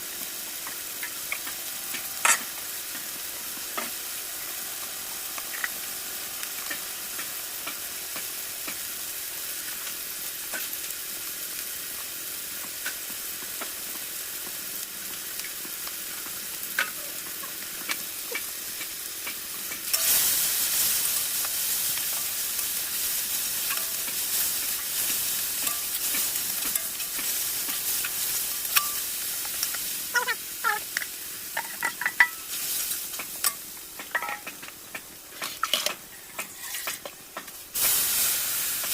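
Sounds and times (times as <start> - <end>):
chickpeas sizzling in a pan: 0.0 - 38.9.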